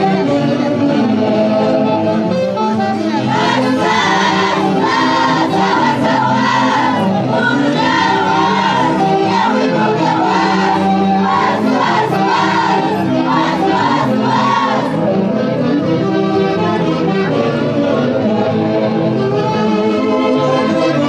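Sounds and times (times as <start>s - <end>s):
festival orchestra playing: 0.0s - 21.0s.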